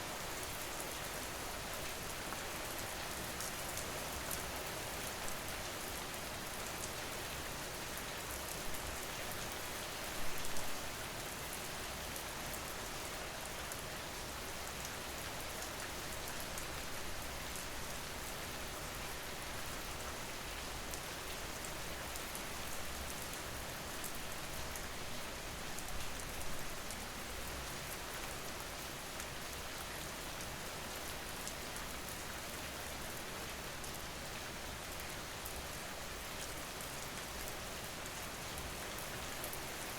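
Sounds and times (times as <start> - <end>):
rain falling on a car: 0.1 - 39.9.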